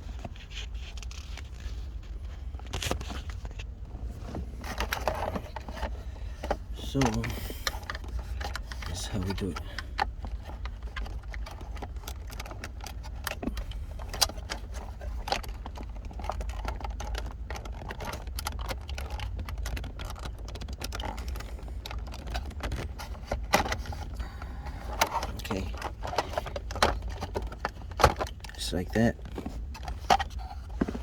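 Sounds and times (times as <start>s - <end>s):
low steady hum: 0.0s - 31.0s
plastic clicks and rattles: 4.6s - 31.0s.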